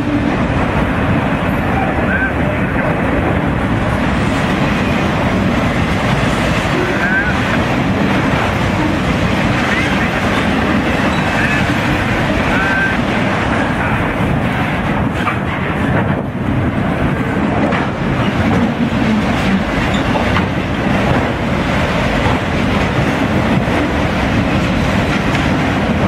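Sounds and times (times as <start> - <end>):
freight cars rumbling on rails: 0.0 - 26.0.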